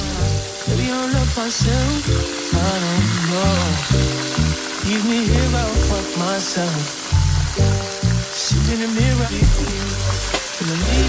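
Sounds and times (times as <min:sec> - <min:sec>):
hot oil sizzling in a pan: 0:00.0 - 0:11.0
song with heavy bass line: 0:00.0 - 0:11.0.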